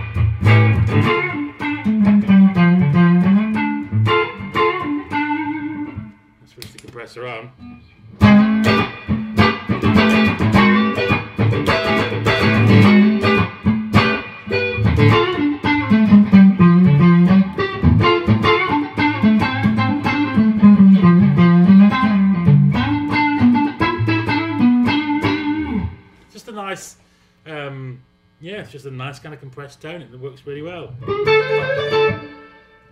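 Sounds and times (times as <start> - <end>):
clean electric guitar melody: 0.0 - 6.4, 7.6 - 26.2, 30.9 - 32.9.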